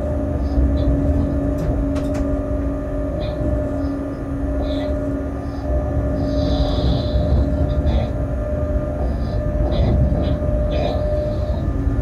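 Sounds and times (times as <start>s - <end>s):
freight train rumble: 0.0s - 12.0s
steady hum: 0.0s - 12.0s.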